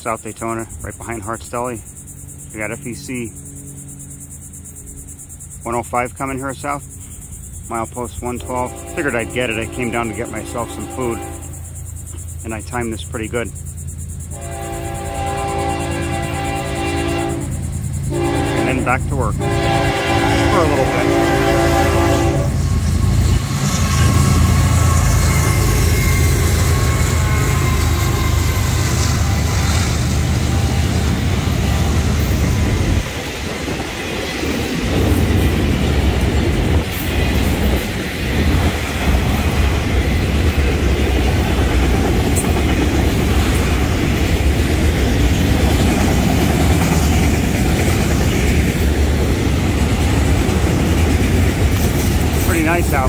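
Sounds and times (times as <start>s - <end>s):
diesel locomotive rumble: 0.0s - 53.0s
freight cars rolling on rails: 0.0s - 53.0s.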